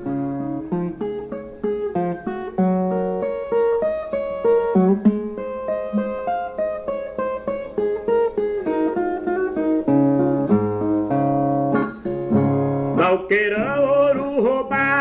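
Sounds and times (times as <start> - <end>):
plucked viola melody: 0.0 - 13.2.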